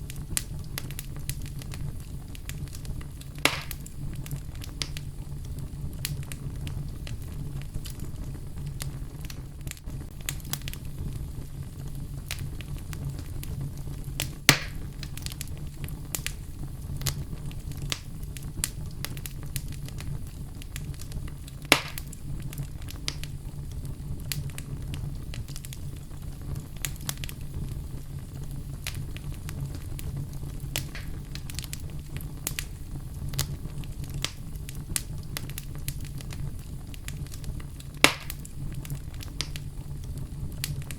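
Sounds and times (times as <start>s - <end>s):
fire pops: 0.0s - 40.9s
wood fire crackling: 0.0s - 40.9s.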